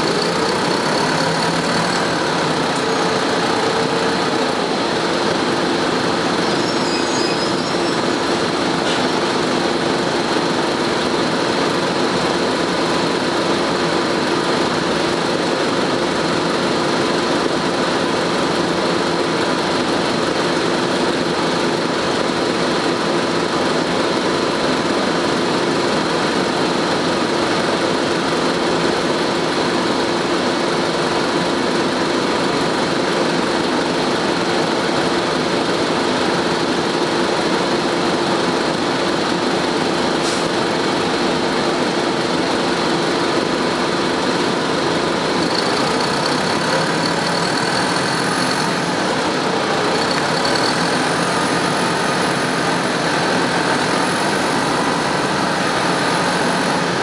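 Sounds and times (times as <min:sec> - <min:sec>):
diesel bus engine running: 0:00.0 - 0:57.0.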